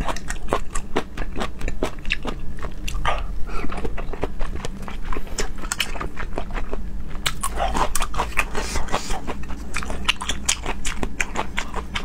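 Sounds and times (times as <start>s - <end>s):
wet chewing and lip smacking: 0.0s - 12.0s.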